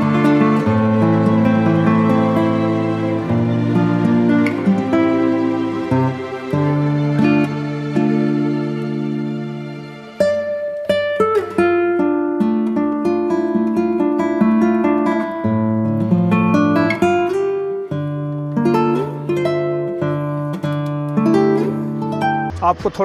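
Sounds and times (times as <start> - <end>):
acoustic guitar plucking: 0.0 - 22.6.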